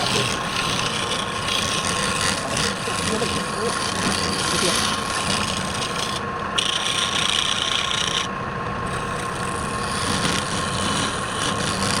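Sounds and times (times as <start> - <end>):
tool rasping on spinning wood: 0.0 - 12.0
wood lathe whine: 0.0 - 12.0.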